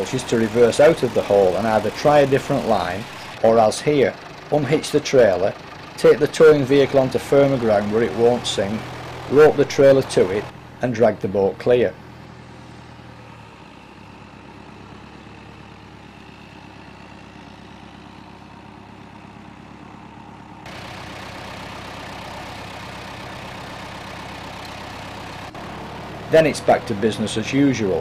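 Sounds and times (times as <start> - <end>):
tractor engine idling: 0.0 - 28.0
tractor engine running: 0.0 - 28.0.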